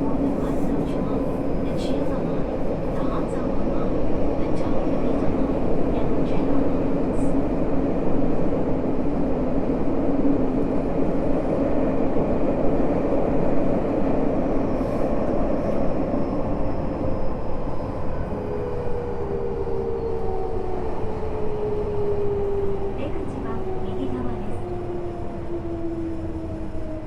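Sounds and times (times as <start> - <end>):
train wheel and rail rumble: 0.0 - 27.0.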